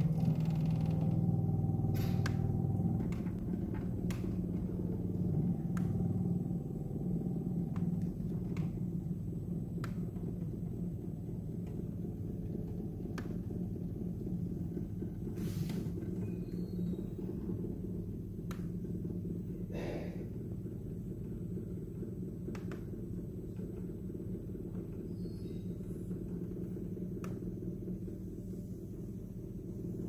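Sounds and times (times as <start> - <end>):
refrigerator humming: 0.0 - 30.0.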